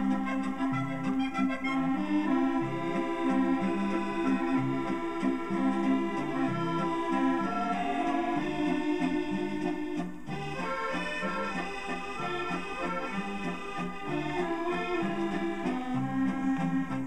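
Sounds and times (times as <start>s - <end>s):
accordion music from record: 0.0s - 17.0s.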